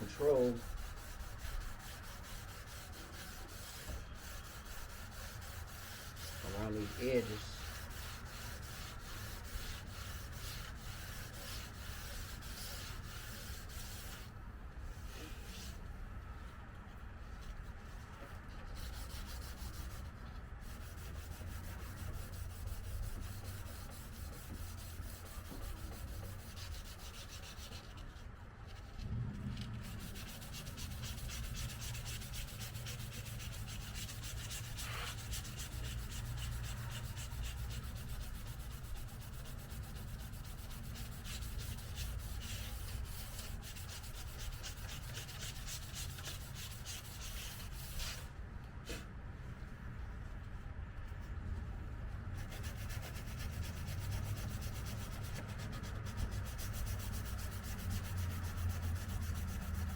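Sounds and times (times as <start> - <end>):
sandpaper rubbing on metal: 0.0 - 14.3, 18.6 - 28.1, 29.6 - 48.3, 52.4 - 59.9.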